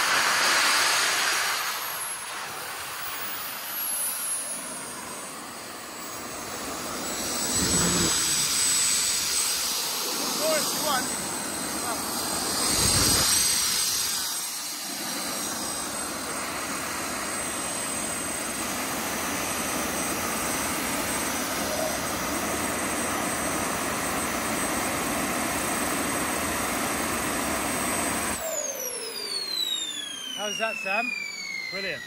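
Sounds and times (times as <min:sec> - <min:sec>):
jet turbines whining: 0:00.0 - 0:32.0.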